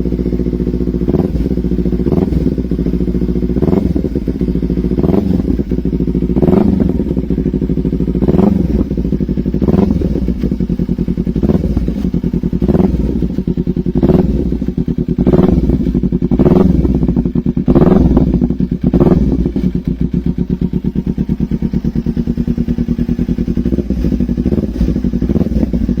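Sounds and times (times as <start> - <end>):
motorcycle engine idling with throttle blips: 0.0 - 26.0.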